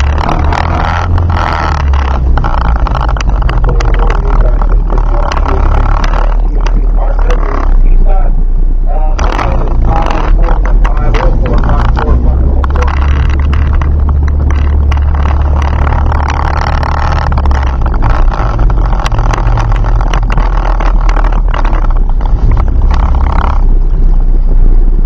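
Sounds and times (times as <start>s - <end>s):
car engine low drone: 0.0s - 25.0s.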